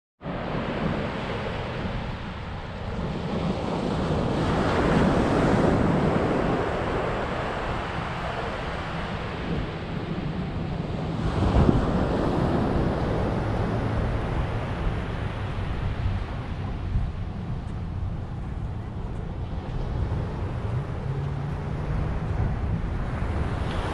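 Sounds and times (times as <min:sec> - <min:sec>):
surf breaking on beach: 0:00.2 - 0:17.5, 0:19.4 - 0:23.9
wind buffeting microphone: 0:00.2 - 0:23.9.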